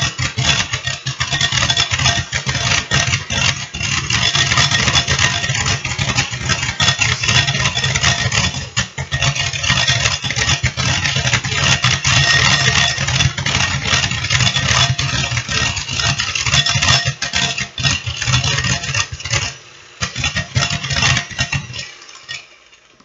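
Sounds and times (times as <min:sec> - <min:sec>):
electric hand mixer whipping cream: 0:00.0 - 0:22.5.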